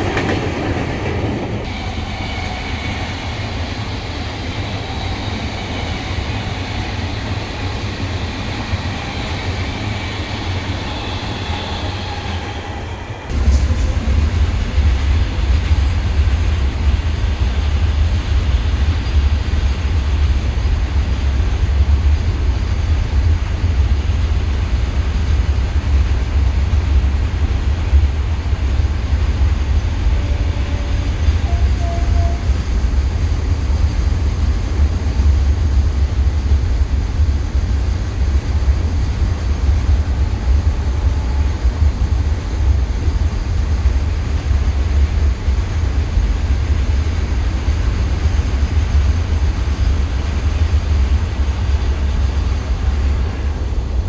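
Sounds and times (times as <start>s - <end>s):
passenger train rumble and rattle: 0.0s - 54.0s.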